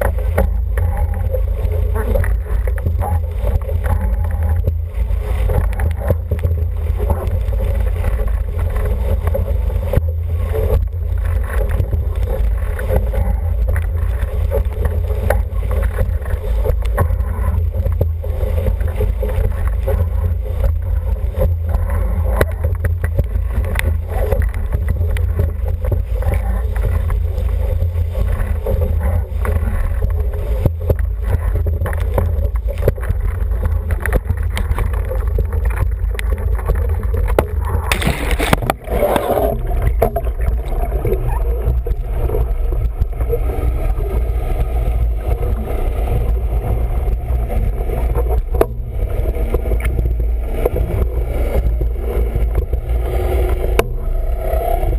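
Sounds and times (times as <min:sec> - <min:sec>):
water rushing along hull: 0:00.0 - 0:54.9.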